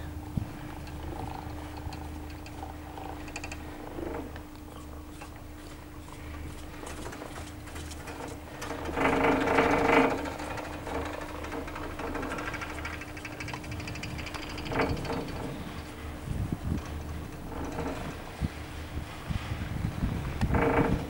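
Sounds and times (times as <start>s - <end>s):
chairlift hum and rattle: 0.0s - 21.0s
rattling rumble: 0.0s - 21.0s.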